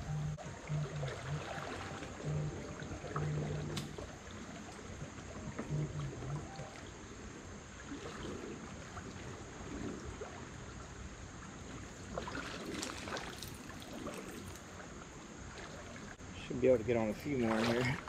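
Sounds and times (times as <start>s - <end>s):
river water over rocks: 0.0s - 18.0s.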